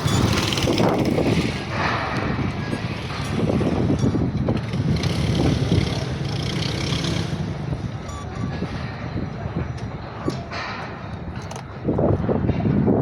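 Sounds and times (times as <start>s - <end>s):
concrete pump rumbling: 0.0s - 13.0s.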